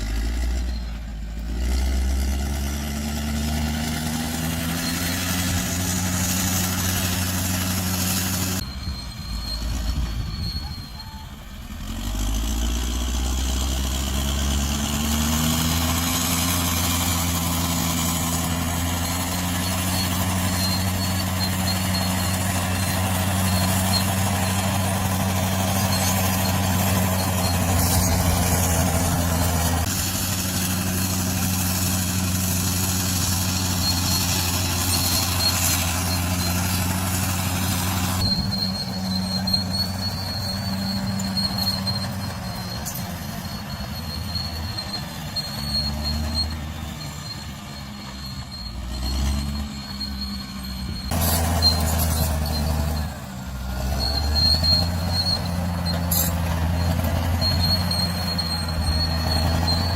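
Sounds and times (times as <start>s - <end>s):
bulldozer diesel engine: 0.0s - 59.9s
thin high squeal: 3.0s - 59.9s.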